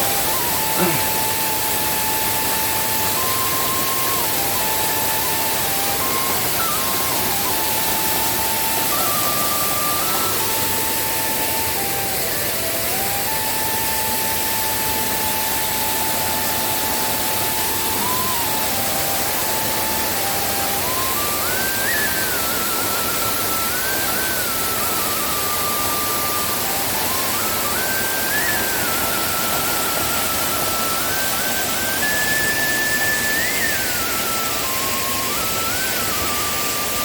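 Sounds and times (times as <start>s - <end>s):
slow melody of held notes: 0.0s - 37.0s
waterfall rushing: 0.0s - 37.0s.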